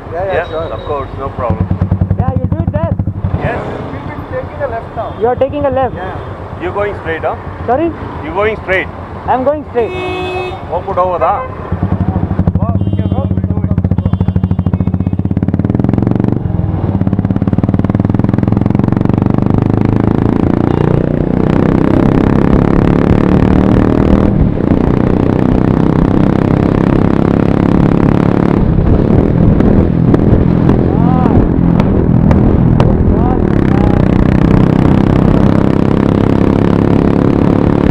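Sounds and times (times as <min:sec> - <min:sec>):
motorcycle engines running: 0:00.0 - 0:10.0, 0:10.7 - 0:37.9.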